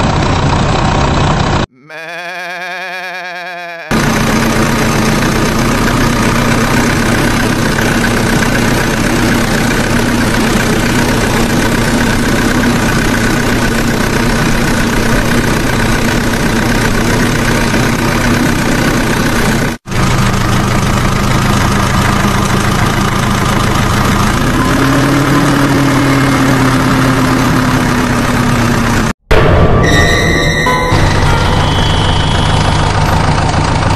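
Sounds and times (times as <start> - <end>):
engine idling: 0.0 - 1.7, 3.9 - 29.5, 30.5 - 33.9.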